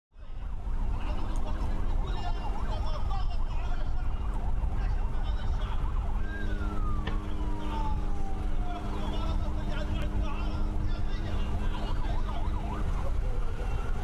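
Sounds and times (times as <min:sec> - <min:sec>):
emergency siren: 0:00.2 - 0:14.0.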